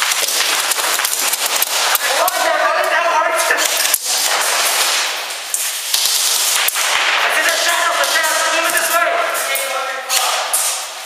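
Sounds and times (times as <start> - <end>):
airsoft guns firing: 0.0 - 10.9
sharp crack: 0.0 - 11.0.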